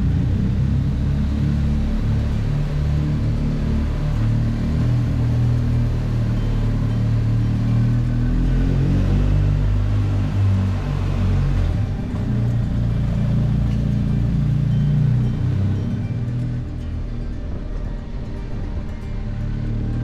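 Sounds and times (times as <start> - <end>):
motorcycle engine droning: 0.0 - 20.0.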